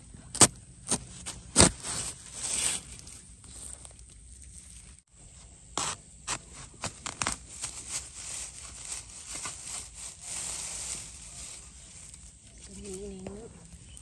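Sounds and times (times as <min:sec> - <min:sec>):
dry leaves rustling and crackling: 0:00.4 - 0:05.0, 0:06.3 - 0:14.0.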